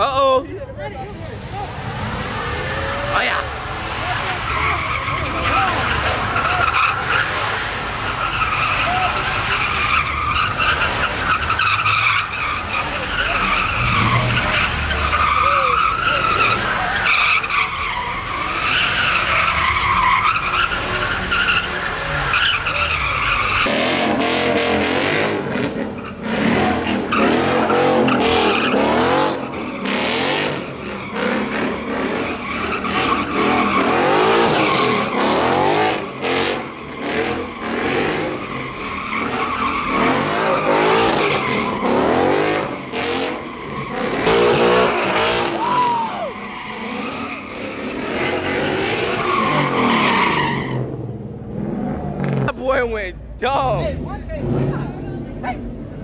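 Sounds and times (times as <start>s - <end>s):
car tyres screeching: 0.0s - 56.0s.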